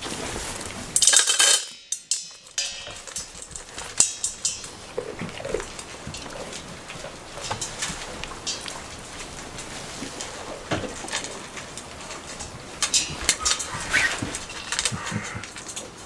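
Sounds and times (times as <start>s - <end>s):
hooves clattering on hard floor: 0.0s - 16.0s
rain patter: 0.0s - 16.0s.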